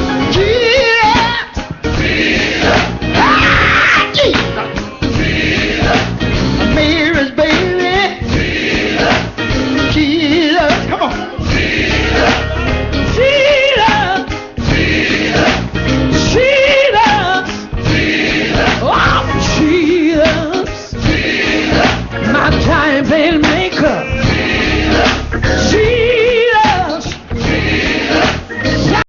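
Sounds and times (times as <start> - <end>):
band accompaniment: 0.0 - 29.0
gospel choir singing: 0.0 - 29.0.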